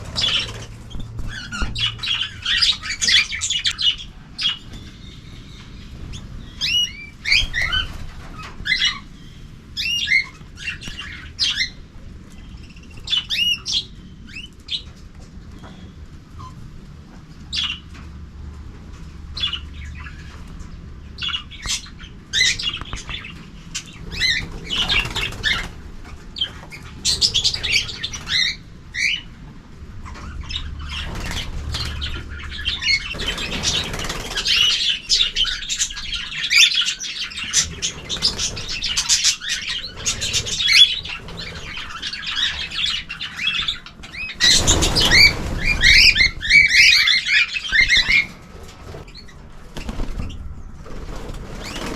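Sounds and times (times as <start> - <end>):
cage birds chirping and chattering: 0.0 - 51.9.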